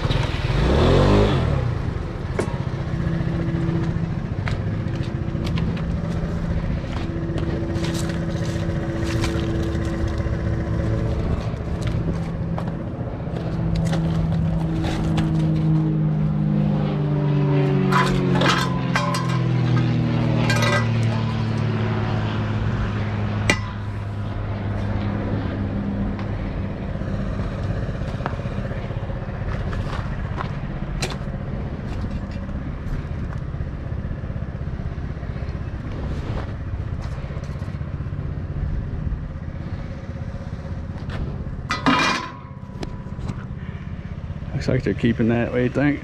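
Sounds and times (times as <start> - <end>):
vehicle engine rumbling: 0.0 - 46.0.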